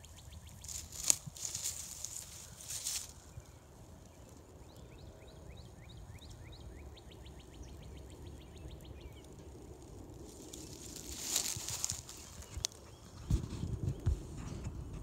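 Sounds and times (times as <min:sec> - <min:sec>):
small bird singing: 0:00.0 - 0:14.2
low wind rumble: 0:00.0 - 0:15.0.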